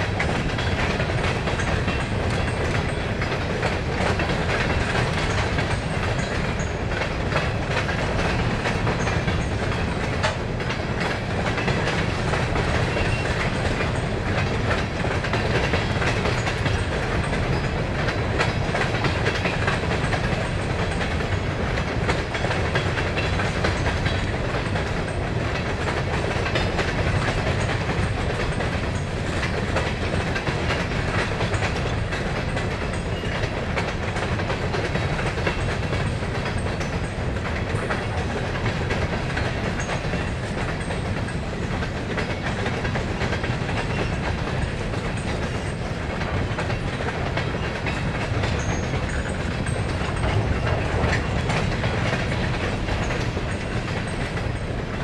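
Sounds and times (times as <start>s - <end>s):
clickety-clack over rail joints: 0.0s - 55.0s
steel wheels rumbling on rail: 0.0s - 55.0s.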